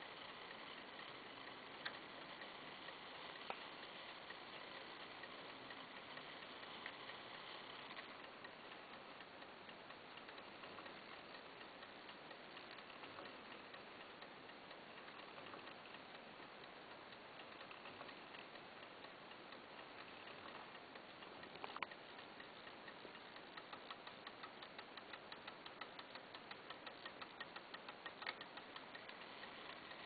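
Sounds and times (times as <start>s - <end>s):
background hiss: 0.0s - 30.0s
clock ticking: 0.0s - 30.0s.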